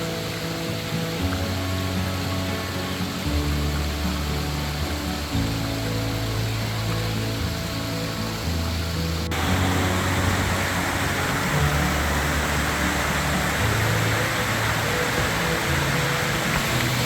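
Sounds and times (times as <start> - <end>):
background music with slow bass: 0.0 - 17.0
waterfall rushing: 0.0 - 17.0.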